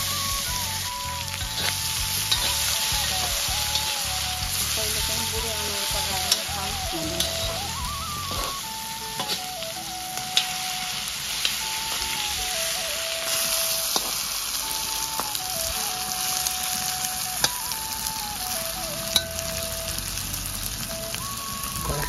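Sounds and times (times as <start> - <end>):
food sizzling in a pan: 0.0 - 22.0
simple background melody: 0.0 - 22.0.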